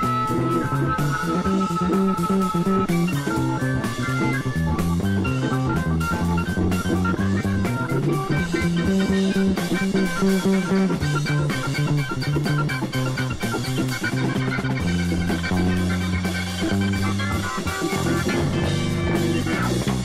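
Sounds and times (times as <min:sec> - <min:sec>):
bass guitar: 0:00.0 - 0:20.0
drum kit beat: 0:00.0 - 0:20.0
guitar: 0:00.0 - 0:20.0.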